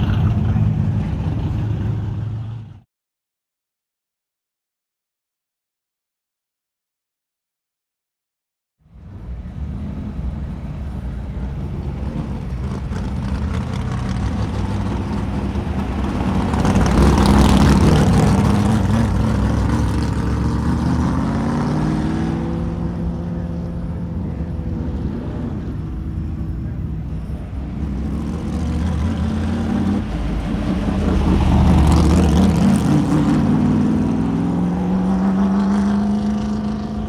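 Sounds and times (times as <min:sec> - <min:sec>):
vehicle engine running: 0:00.0 - 0:02.8, 0:08.9 - 0:37.0.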